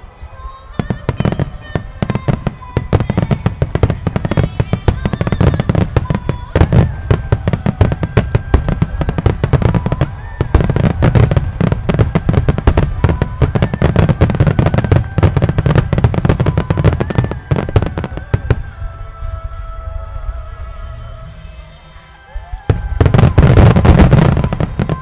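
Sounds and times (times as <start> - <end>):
fireworks bursting: 0.0 - 25.0
heavy low rumble: 1.0 - 25.0.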